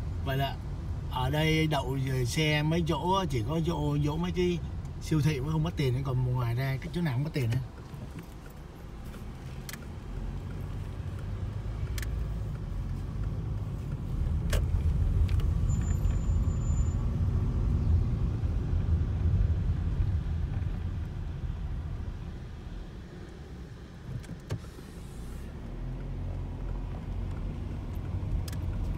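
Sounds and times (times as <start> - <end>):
car engine and road rumble: 0.0 - 28.9.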